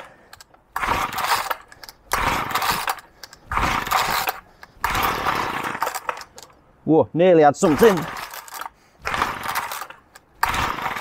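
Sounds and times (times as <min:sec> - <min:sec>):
recoil starter pulls: 0:00.0 - 0:06.6, 0:07.6 - 0:11.0
engine turning over without catching: 0:00.8 - 0:06.4, 0:07.7 - 0:11.0.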